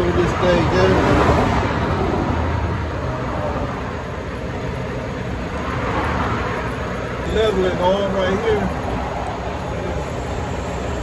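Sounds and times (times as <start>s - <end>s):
freeway traffic rushing: 0.0s - 11.0s.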